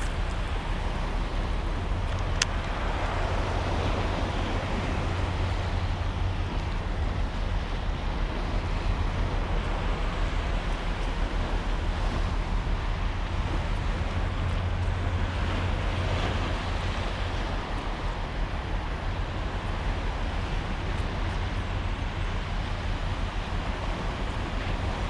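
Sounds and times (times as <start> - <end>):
sea water washing around kayak: 0.0 - 25.0.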